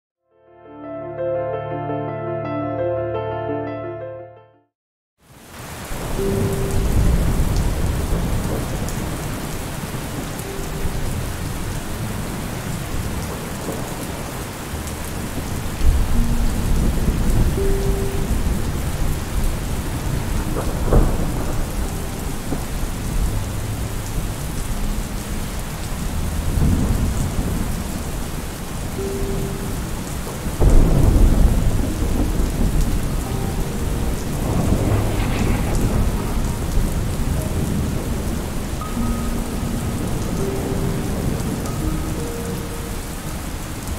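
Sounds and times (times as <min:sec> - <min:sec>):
steady rain falling: 0:05.2 - 0:43.9
thunder rumbles: 0:05.7 - 0:42.2.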